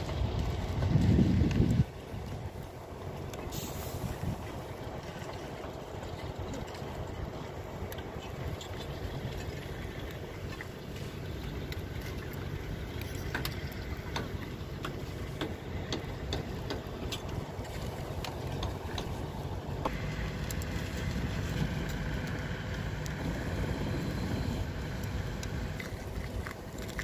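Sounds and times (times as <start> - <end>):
distant truck engines droning: 0.0 - 27.0.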